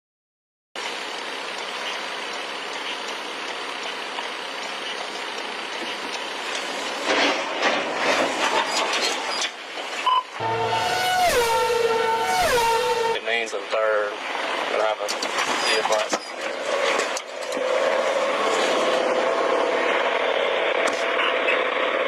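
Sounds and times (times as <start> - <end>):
road and traffic noise: 0.8 - 22.0.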